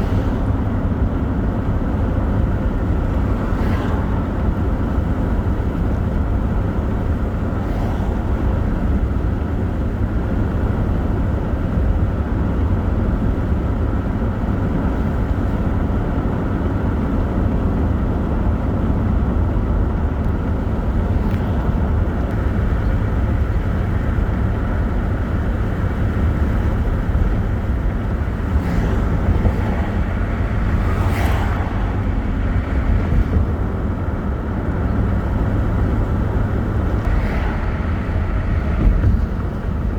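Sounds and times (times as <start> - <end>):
vehicle road noise: 0.0 - 39.9.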